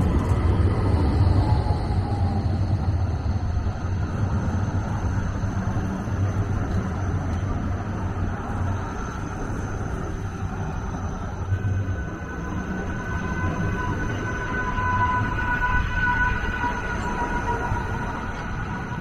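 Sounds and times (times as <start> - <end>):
tram high whine: 0.0 - 19.0
tram wheel squeal: 0.0 - 19.0
tram wheels rumbling on rails: 0.0 - 19.0.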